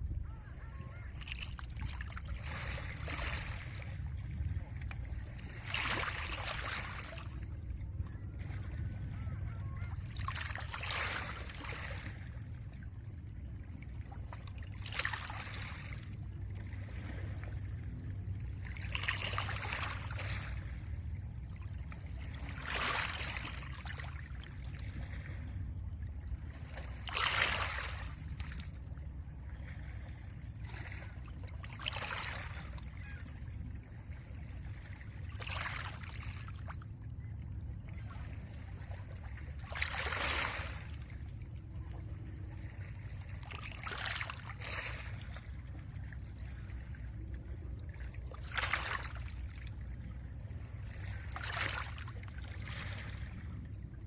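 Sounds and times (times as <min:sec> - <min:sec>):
steady low rumble: 0:00.0 - 0:39.9, 0:40.5 - 0:54.0.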